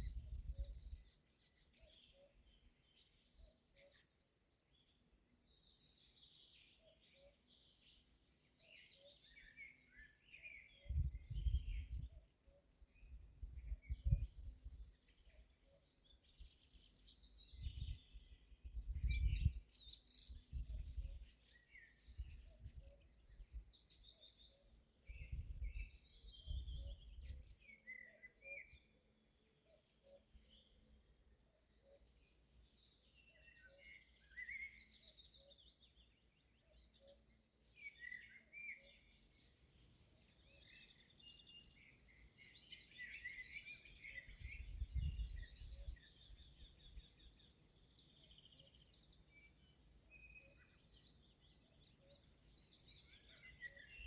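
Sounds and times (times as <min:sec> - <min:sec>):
birds singing and calling: 0:00.0 - 0:54.0.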